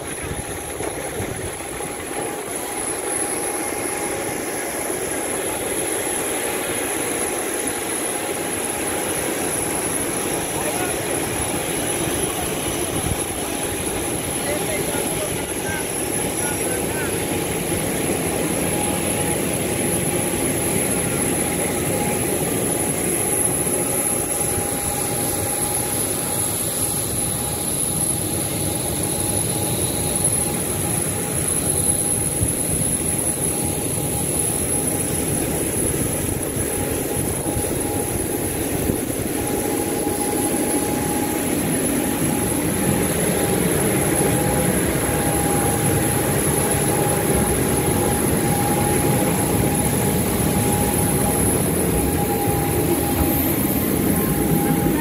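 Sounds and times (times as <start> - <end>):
jet turbine whine: 0.0 - 55.0.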